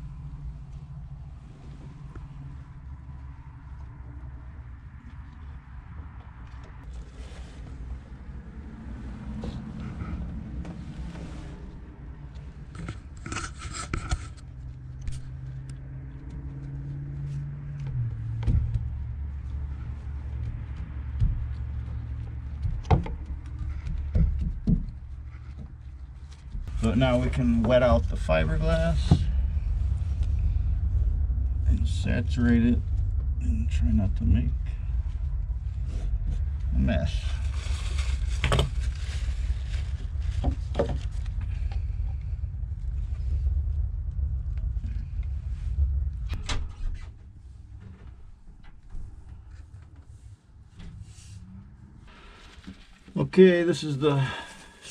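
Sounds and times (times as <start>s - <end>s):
low engine-like hum: 0.0s - 54.9s
steady low rumble: 0.0s - 54.9s.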